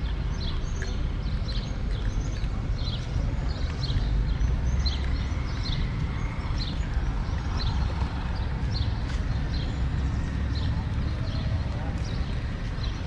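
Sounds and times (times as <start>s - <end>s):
bird chirping: 0.0s - 13.0s
low outdoor rumble: 0.0s - 13.0s.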